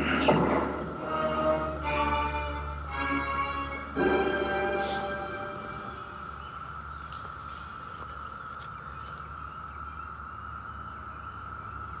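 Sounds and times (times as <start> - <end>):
cicadas droning: 0.8 - 12.0.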